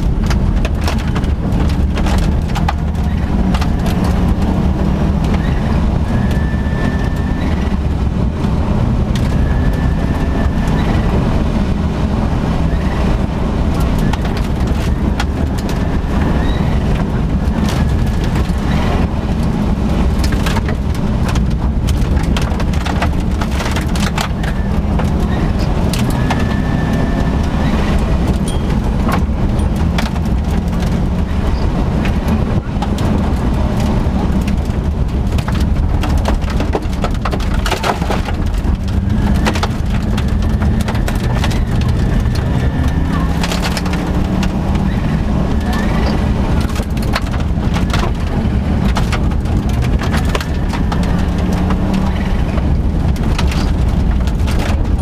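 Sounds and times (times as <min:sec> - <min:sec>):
gravel clattering under car: 0:00.0 - 0:55.0
rally car engine revving: 0:00.0 - 0:55.0.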